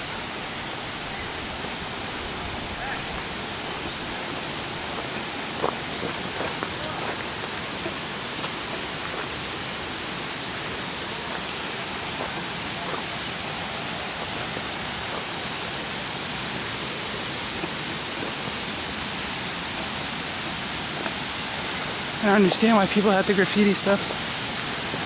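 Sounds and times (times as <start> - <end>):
water rushing over dam spillway: 0.0 - 25.0.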